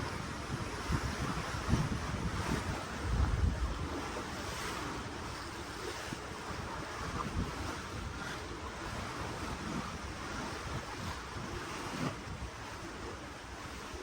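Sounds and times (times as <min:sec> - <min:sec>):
ocean waves washing: 0:00.0 - 0:13.7
wind buffeting microphone: 0:00.0 - 0:14.0.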